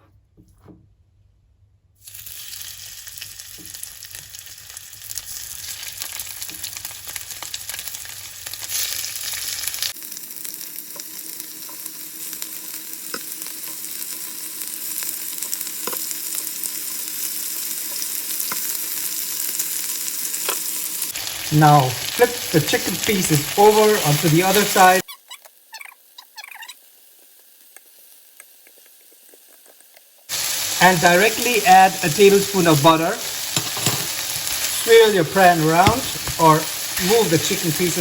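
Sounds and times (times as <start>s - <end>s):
chicken frying in oil: 2.0s - 38.0s.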